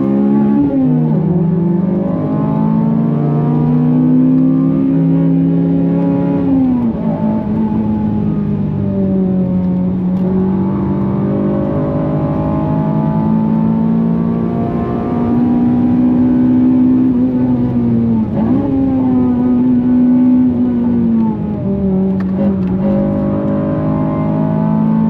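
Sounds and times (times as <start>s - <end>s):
car engine at high revs: 0.0s - 25.0s.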